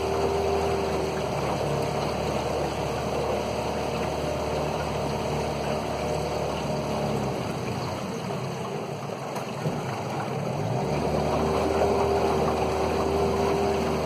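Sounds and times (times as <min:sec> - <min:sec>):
outboard motor running: 0:00.0 - 0:14.0
water rushing along hull: 0:00.0 - 0:14.0.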